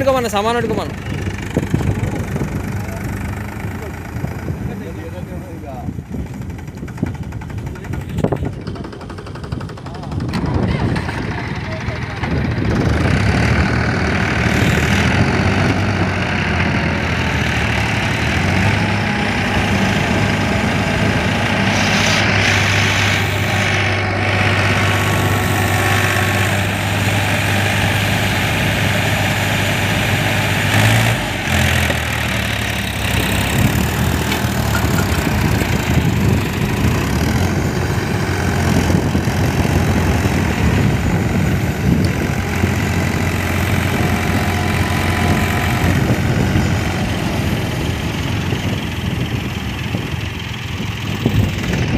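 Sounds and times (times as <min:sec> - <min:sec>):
tractor diesel engines running: 0:00.0 - 0:51.9.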